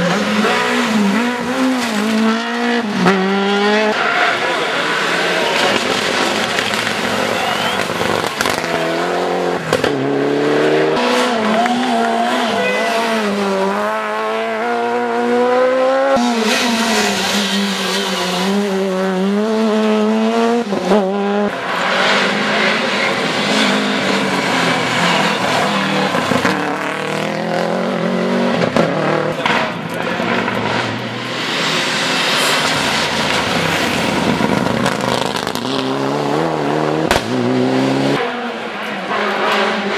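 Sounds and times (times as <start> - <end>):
rally car engines revving: 0.0 - 39.9
car passing with tyre noise: 0.2 - 39.9.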